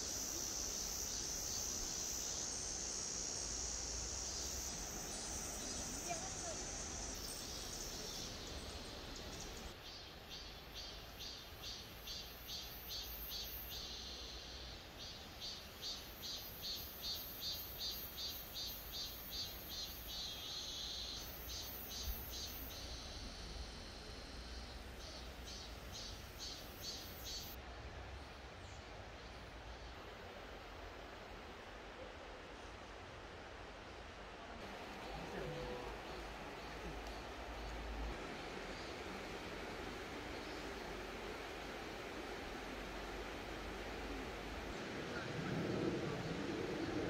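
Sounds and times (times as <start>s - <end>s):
insect chirping: 0.0s - 27.6s, 34.6s - 47.0s
faint steady hiss: 0.0s - 47.0s.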